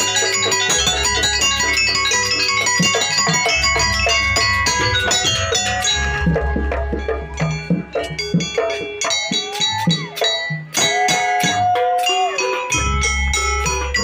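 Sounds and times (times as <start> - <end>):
drums: 0.0 - 14.0
ringing metal percussion: 0.0 - 14.0.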